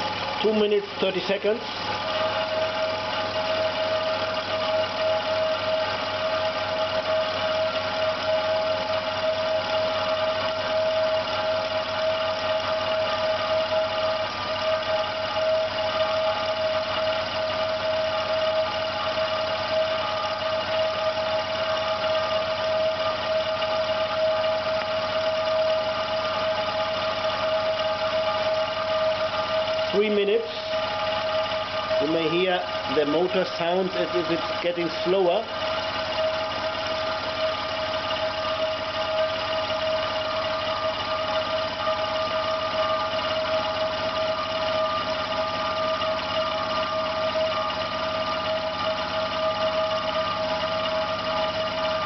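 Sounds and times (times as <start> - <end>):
air compressor running with whine: 0.0 - 52.0.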